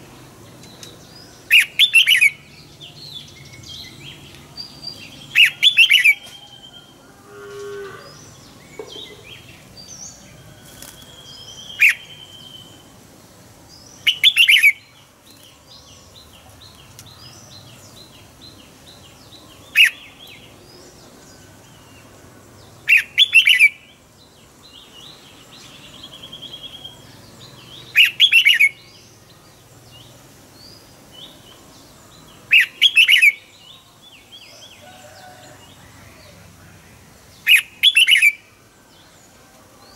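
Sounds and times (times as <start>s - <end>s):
bulbul singing: 0.0s - 34.8s, 37.0s - 39.9s.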